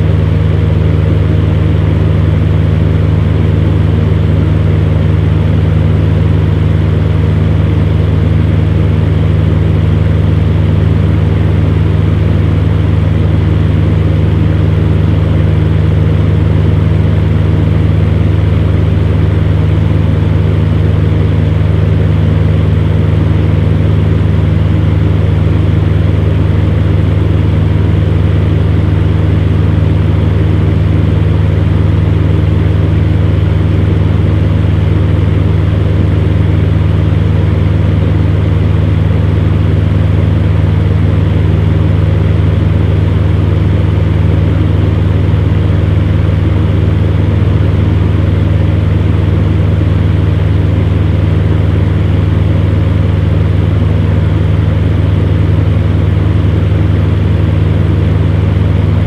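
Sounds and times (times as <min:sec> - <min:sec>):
fan heater running: 0:00.0 - 0:59.0.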